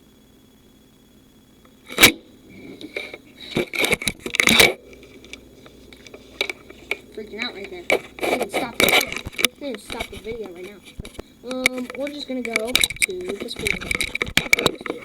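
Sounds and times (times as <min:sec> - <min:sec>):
crackling clicks and knocks: 0:01.6 - 0:15.0.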